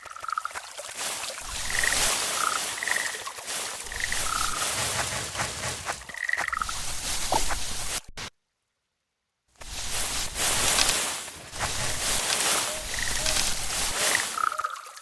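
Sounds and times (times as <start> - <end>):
background hiss: 0.2 - 15.0.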